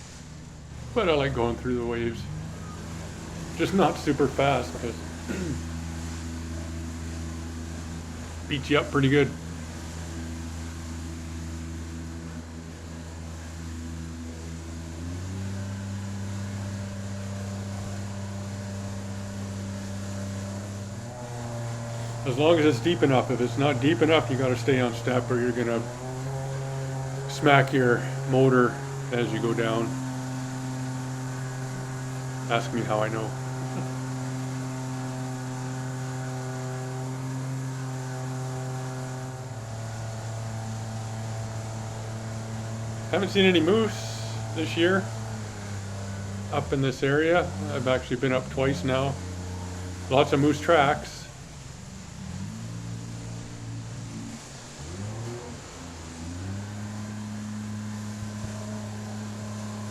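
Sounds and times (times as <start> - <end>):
jet boat motor revving: 0.0 - 59.9
water hissing: 0.0 - 59.9.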